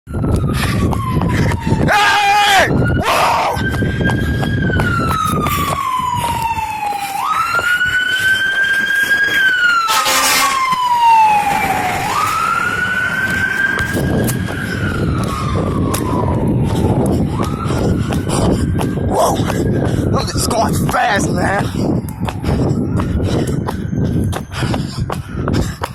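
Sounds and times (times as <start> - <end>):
fire engine siren wailing: 0.1 - 24.5.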